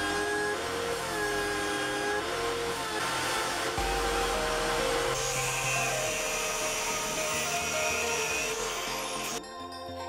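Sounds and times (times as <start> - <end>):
angle grinder whine: 0.0 - 9.4
electric drill motor running: 0.0 - 9.4
steel rod grinding on disc: 0.0 - 9.4
background music: 0.0 - 10.0.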